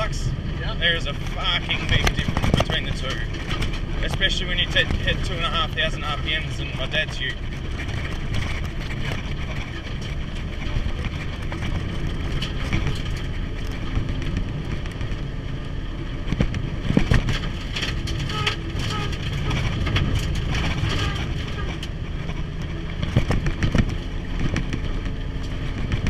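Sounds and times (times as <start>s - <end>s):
car engine at speed: 0.0s - 26.0s
sharp knocks and rattles: 1.1s - 26.0s.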